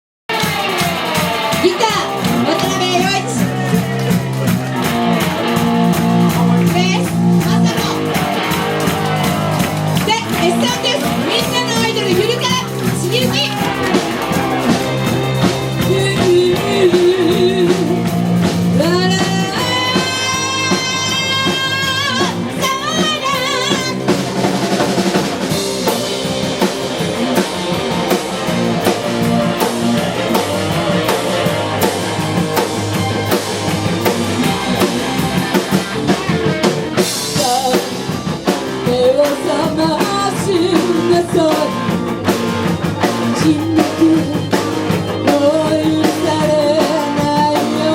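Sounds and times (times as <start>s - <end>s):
rock band playing: 0.3s - 47.9s.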